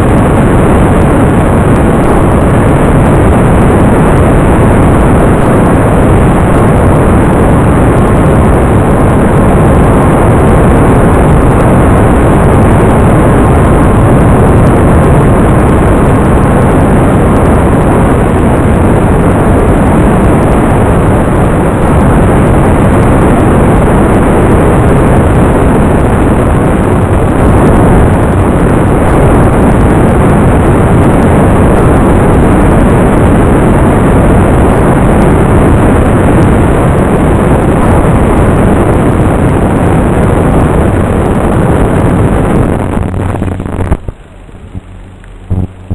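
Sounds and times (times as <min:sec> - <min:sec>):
aircraft motor: 0:00.0 - 0:45.9
wind rushing: 0:00.0 - 0:45.9.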